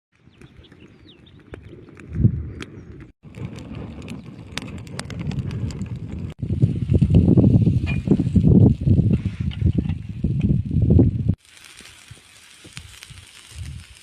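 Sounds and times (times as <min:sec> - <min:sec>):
campfire crackling: 0:00.1 - 0:14.0.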